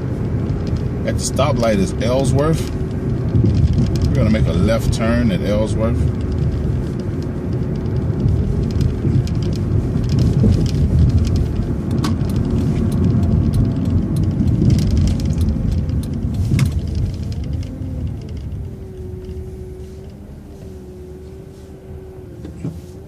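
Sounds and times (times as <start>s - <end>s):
bus engine and cabin rumble: 0.0s - 23.0s.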